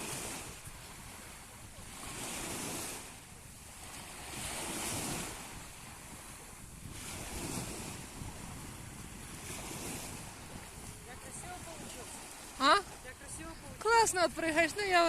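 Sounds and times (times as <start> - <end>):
waves breaking on shore: 0.0 - 15.0
wind rumbling on microphone: 0.0 - 15.0.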